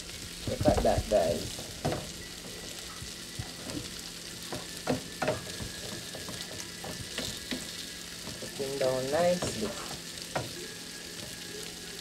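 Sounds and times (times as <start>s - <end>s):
fruit sizzling in a frying pan: 0.0s - 12.0s.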